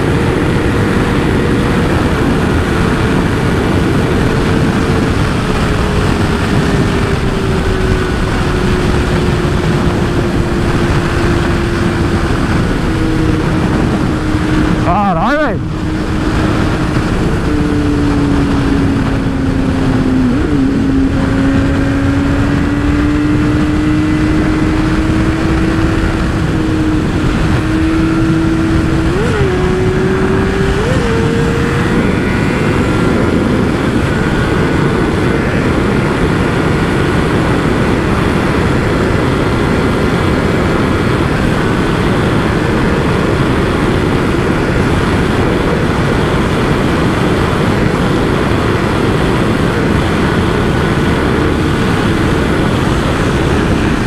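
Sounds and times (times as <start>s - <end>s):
motorcycle engine running: 0.0s - 54.0s
wind noise rushing: 0.0s - 54.0s.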